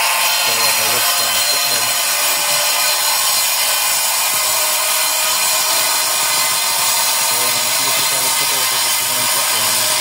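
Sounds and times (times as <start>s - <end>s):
masonry saw cutting brick: 0.0s - 10.0s.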